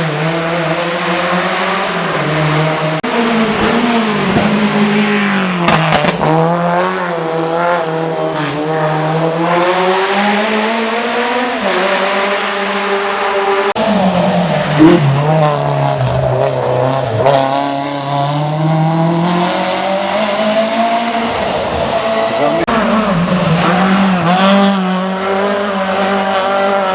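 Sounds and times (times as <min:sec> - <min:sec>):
race car engine accelerating: 0:00.0 - 0:26.9.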